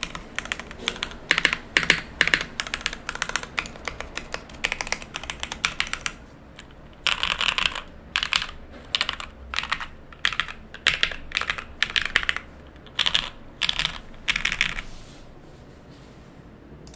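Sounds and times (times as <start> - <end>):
mechanical keyboard typing: 0.0 - 15.0.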